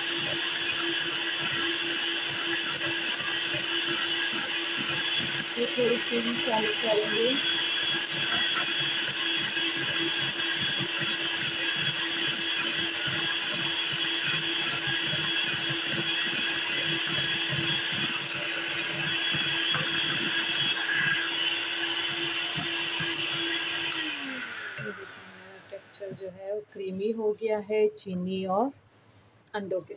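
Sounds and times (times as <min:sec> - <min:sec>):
electric hand mixer whirring: 0:00.0 - 0:26.2.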